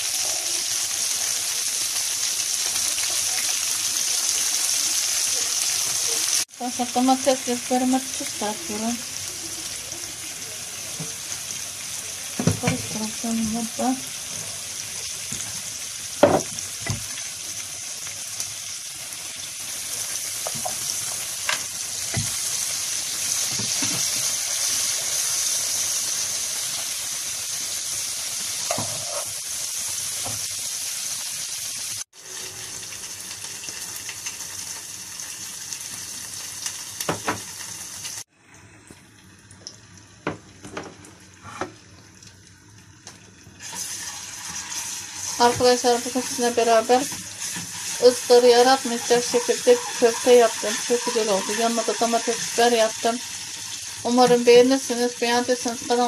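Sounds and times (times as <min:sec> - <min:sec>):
vegetables sizzling in oil: 0:00.0 - 0:38.3, 0:39.0 - 0:56.0.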